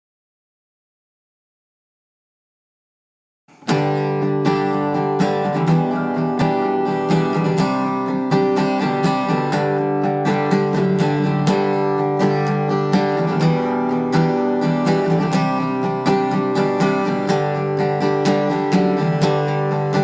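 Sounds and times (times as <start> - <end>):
acoustic guitar strumming: 3.5 - 20.0.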